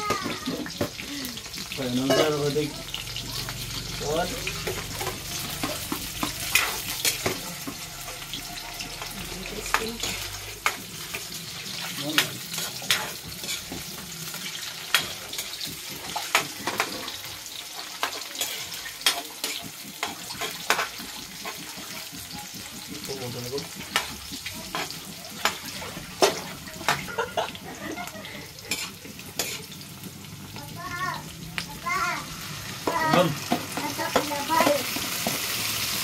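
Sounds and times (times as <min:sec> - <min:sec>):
chicken sizzling in a pan: 0:00.0 - 0:36.0.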